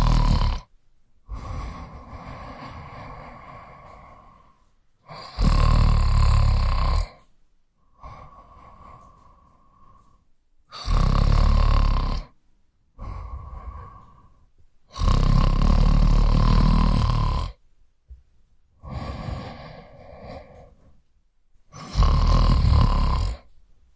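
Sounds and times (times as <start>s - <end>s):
man snoring: 0.0s - 0.7s, 1.3s - 7.3s, 7.9s - 12.4s, 13.0s - 17.6s, 18.8s - 20.9s, 21.7s - 23.5s
quiet breaths: 0.0s - 23.9s.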